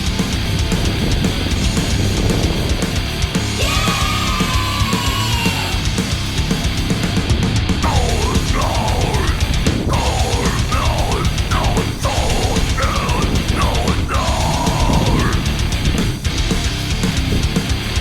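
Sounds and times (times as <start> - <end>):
heavy rock music: 0.0 - 18.0.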